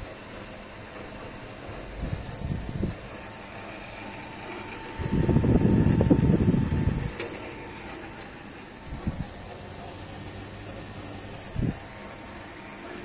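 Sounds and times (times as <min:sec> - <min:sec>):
air conditioner humming: 0:00.0 - 0:13.0
thin whine: 0:00.0 - 0:13.0.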